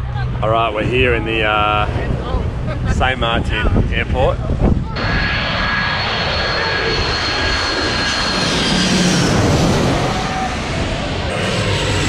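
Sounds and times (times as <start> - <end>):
jet airliner engine roar: 0.0 - 12.0.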